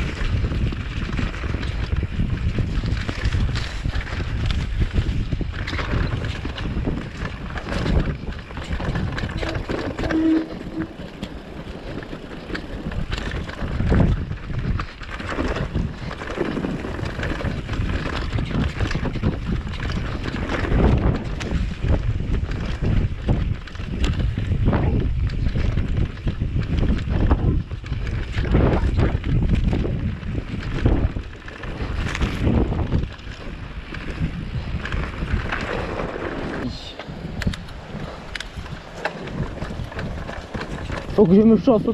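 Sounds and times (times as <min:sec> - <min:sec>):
bike clattering over bumps: 0:00.0 - 0:41.9
wind buffeting microphone: 0:00.0 - 0:41.9.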